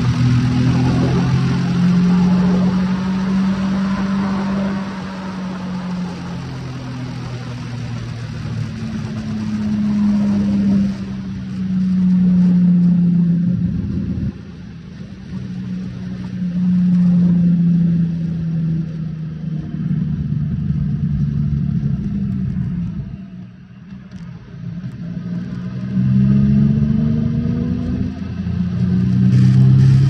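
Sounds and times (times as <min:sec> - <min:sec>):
motorcycle engine slowing: 0:00.0 - 0:25.6.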